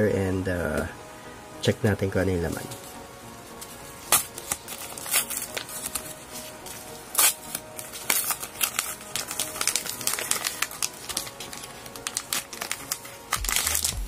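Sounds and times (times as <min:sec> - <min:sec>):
padded mailer crinkling: 0:02.5 - 0:14.0.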